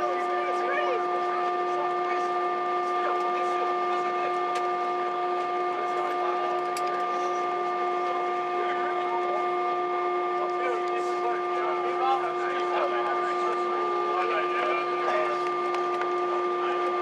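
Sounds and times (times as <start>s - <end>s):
jet engines whining in cabin: 0.0s - 17.0s.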